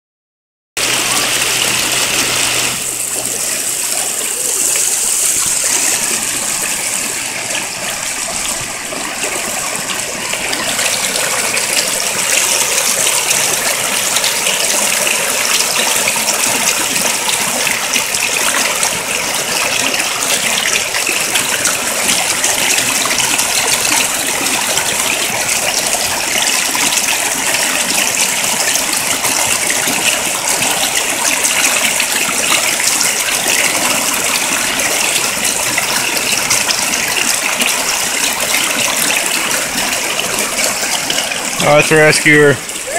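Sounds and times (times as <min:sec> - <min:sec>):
churning whitewater rushing: 0:00.8 - 0:42.9.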